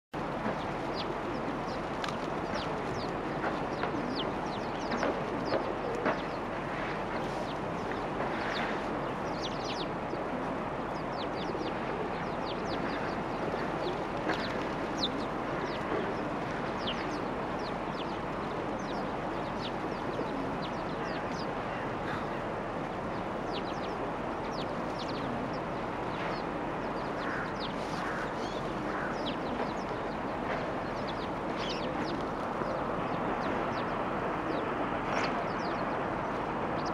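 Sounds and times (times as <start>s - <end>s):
steady background hiss: 0.2s - 36.9s
small birds chirping: 0.3s - 36.9s.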